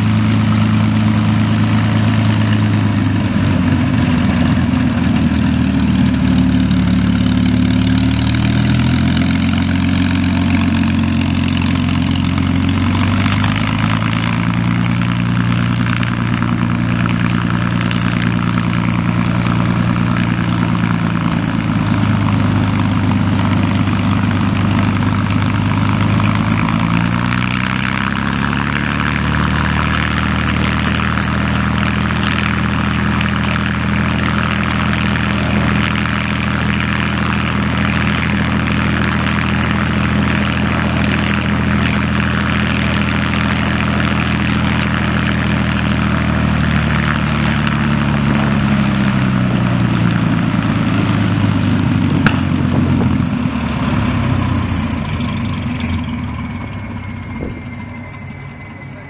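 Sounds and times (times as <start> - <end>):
propeller aircraft engine running: 0.0 - 59.0.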